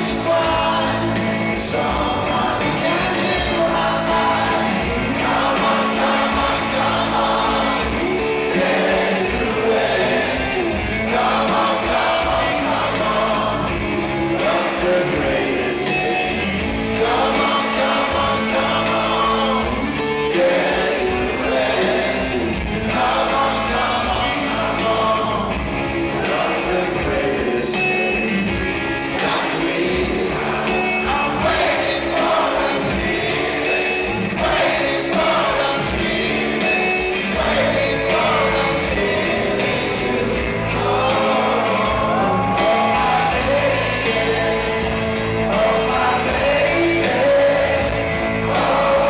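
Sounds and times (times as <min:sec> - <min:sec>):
live rock band: 0:00.0 - 0:49.0
person singing: 0:00.0 - 0:49.0.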